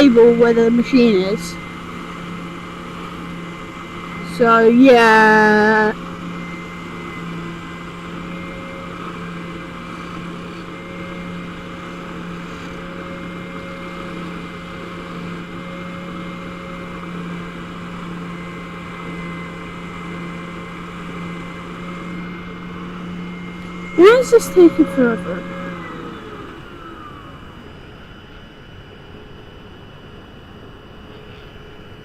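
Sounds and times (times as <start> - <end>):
band saw cutting wood: 0.0 - 26.5.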